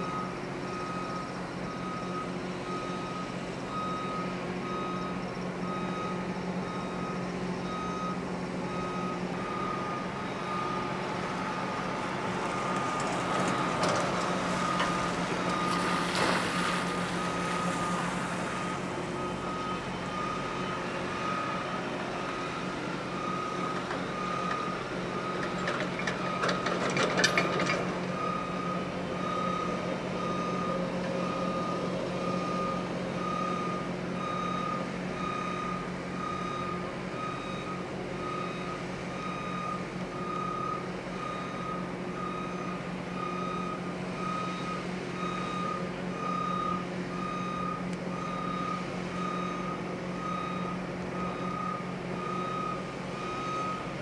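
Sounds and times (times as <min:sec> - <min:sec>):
backup alarm beeping: 0:00.0 - 0:11.7, 0:19.1 - 0:54.0.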